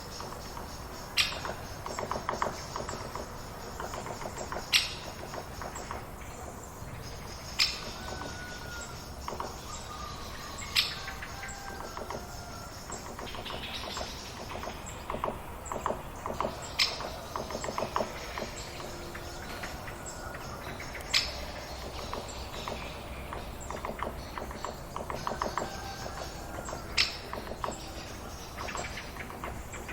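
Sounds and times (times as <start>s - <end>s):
birds calling: 0.0s - 29.9s.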